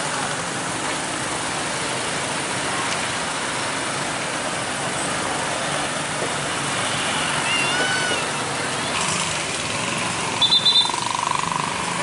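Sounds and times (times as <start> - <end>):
diesel truck driving past: 0.0 - 12.0
motorcycles idling: 0.0 - 12.0
traffic hiss: 0.0 - 12.0.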